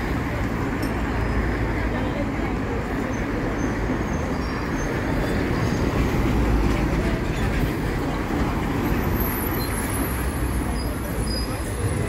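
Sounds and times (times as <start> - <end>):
diesel bus engine rumbling: 0.0 - 12.0.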